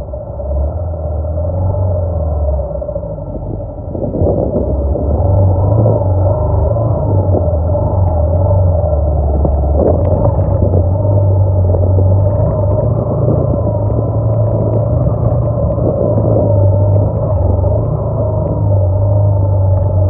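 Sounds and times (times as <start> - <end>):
motorcycle engine running: 2.8 - 20.0.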